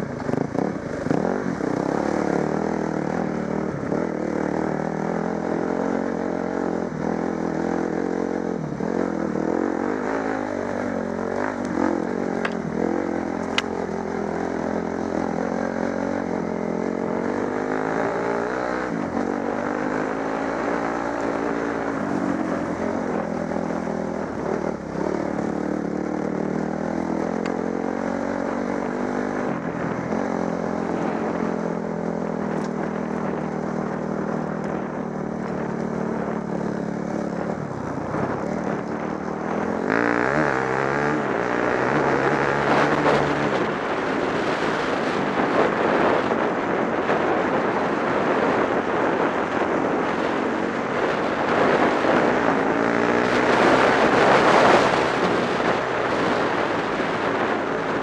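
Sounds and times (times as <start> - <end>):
dirt bike engine revving: 0.0 - 31.8, 36.2 - 58.0.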